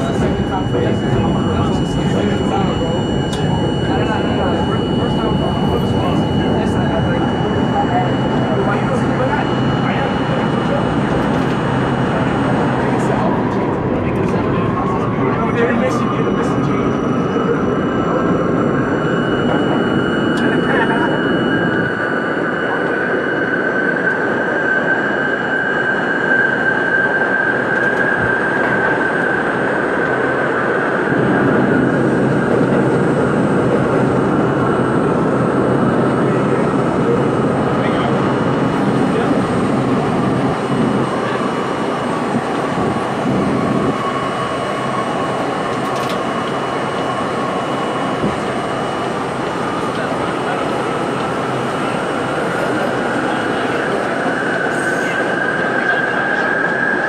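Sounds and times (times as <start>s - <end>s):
subway train howl: 0.0s - 57.0s.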